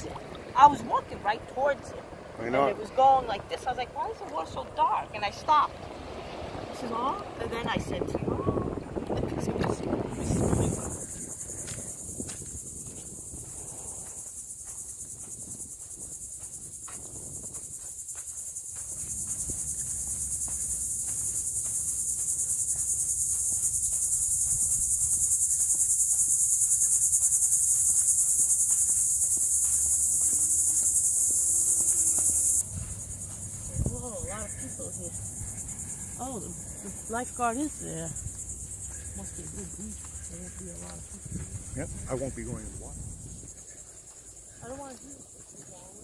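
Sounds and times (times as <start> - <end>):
insects chirring: 0.0 - 46.0.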